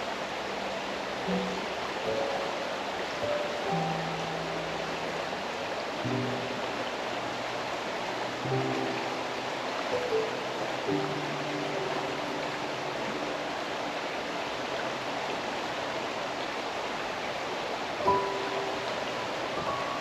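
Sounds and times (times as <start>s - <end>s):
river water rushing: 0.0s - 20.0s
soft background music: 1.2s - 15.9s, 18.0s - 20.0s.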